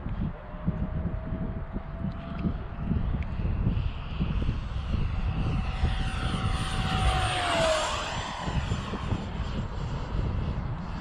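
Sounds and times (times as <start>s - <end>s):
model jet fan whining flyby: 0.0s - 11.0s.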